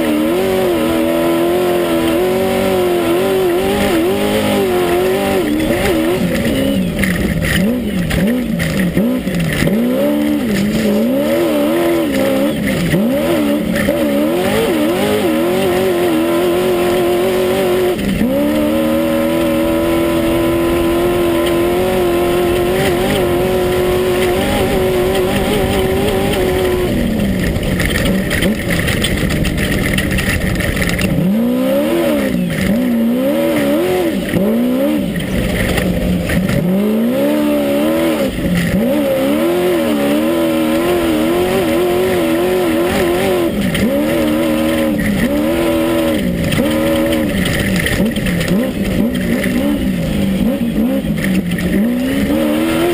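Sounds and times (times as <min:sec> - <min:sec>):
race buggy engine revving: 0:00.0 - 0:52.9.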